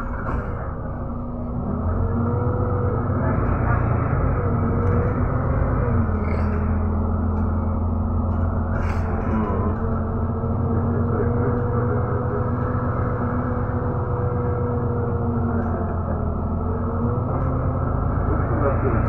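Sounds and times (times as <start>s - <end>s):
constant hum: 0.0s - 19.0s
vehicle engine and road noise: 0.0s - 19.0s.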